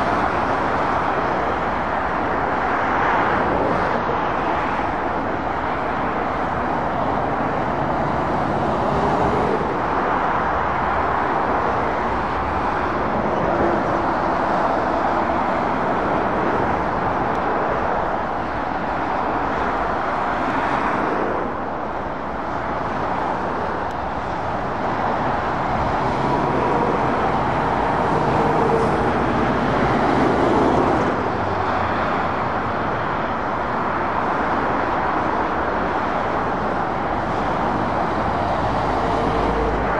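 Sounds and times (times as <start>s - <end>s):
engine hum of passing vehicles: 0.0s - 39.9s
tyre noise of passing traffic: 0.0s - 39.9s.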